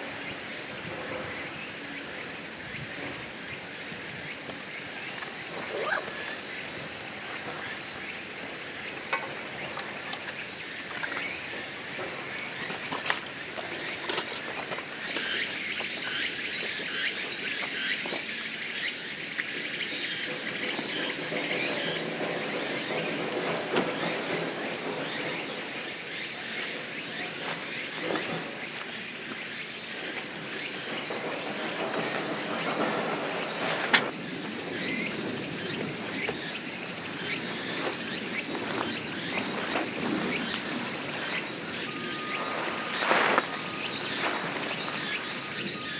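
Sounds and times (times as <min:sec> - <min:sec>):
insect chorus buzzing: 0:00.0 - 0:45.9.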